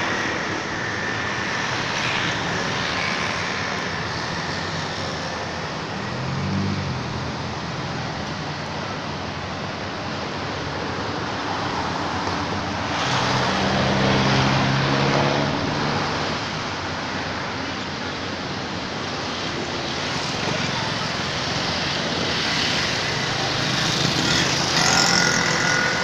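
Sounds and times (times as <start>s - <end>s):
hiss of passing traffic: 0.0s - 26.0s.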